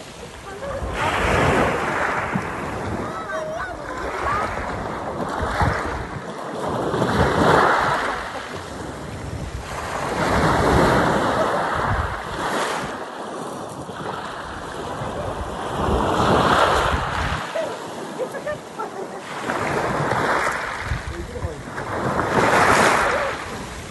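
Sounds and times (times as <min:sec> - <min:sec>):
sea surf breaking on sandy beach: 0:00.0 - 0:23.9.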